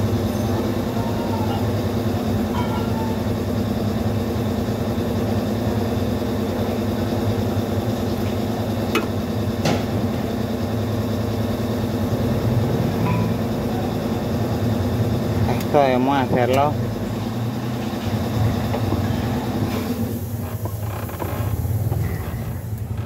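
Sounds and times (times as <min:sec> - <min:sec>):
steady engine hum: 0:00.0 - 0:23.0.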